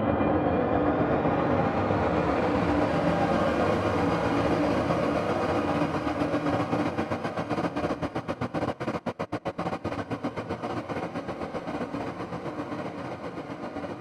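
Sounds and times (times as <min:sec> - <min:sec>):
rumbling piano texture: 0:00.0 - 0:14.0.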